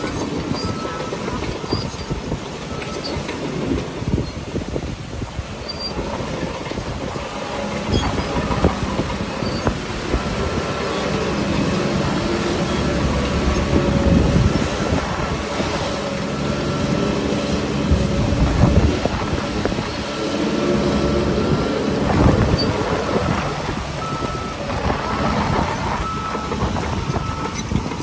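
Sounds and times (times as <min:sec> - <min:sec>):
bulldozer diesel engine running: 0:00.0 - 0:28.0
steel tracks clanking: 0:00.0 - 0:28.0.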